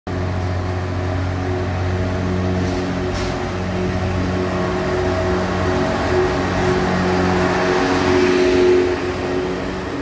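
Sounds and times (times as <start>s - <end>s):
train humming: 0.1s - 10.0s.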